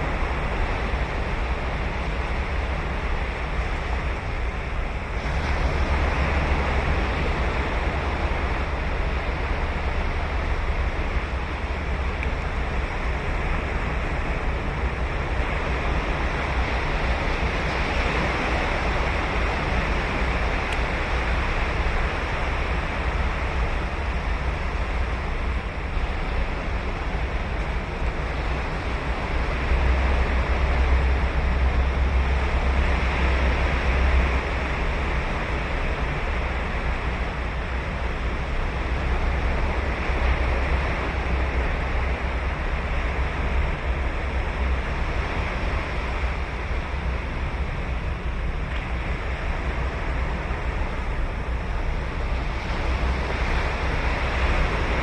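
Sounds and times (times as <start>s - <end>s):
ocean surf breaking on beach: 0.0s - 55.0s
wind buffeting microphone: 0.0s - 55.0s.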